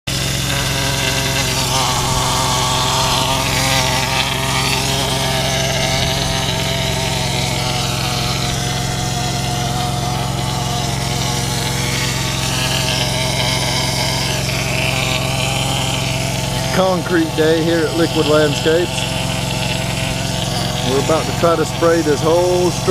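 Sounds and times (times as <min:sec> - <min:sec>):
engine buzzing drone: 0:00.0 - 0:22.9.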